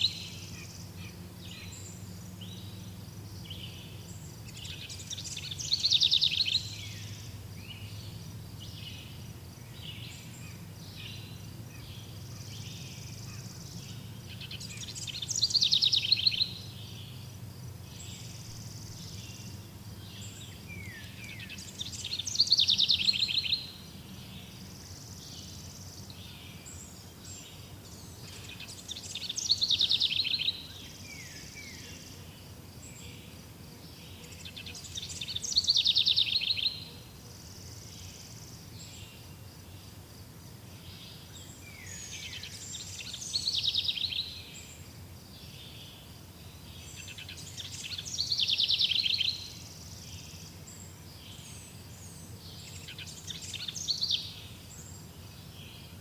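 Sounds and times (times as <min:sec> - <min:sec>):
songbird trilling: 0:00.0 - 0:32.3, 0:34.2 - 0:37.0, 0:40.9 - 0:44.8, 0:46.8 - 0:55.9
faint bird chirps: 0:00.0 - 0:40.0, 0:40.7 - 0:56.0.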